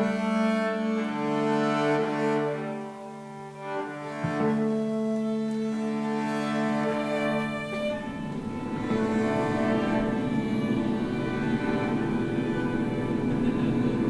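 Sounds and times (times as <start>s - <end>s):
slow drone of held notes: 0.0s - 14.0s.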